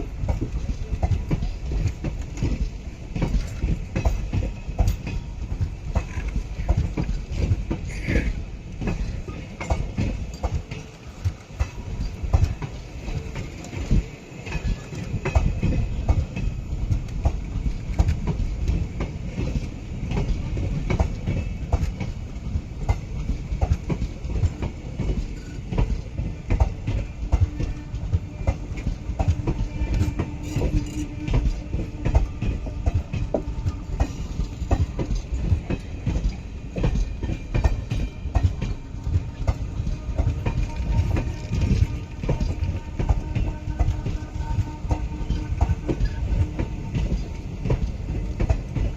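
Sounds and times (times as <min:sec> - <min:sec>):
train coaches rumbling past: 0:00.0 - 0:48.9.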